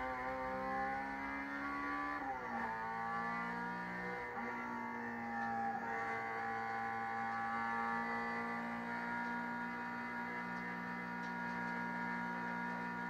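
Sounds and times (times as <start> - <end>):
race car engine under load: 0.0 - 13.0.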